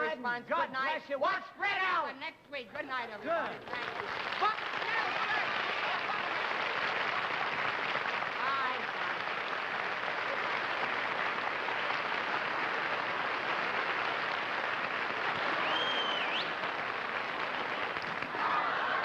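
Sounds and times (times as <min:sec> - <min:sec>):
audience applauding: 0:03.4 - 0:19.0.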